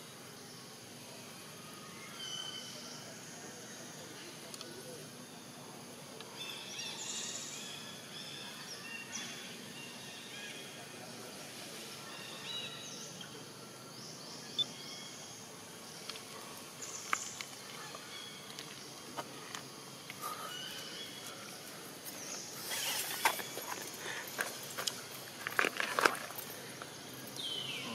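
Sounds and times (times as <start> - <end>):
birds chirping: 0.0 - 27.9
steady background hiss: 0.0 - 27.9.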